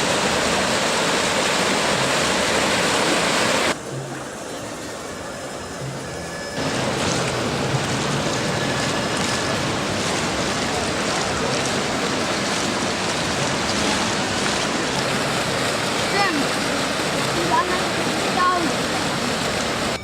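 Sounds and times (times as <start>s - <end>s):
falling splashing water: 0.0s - 5.2s, 6.6s - 20.0s.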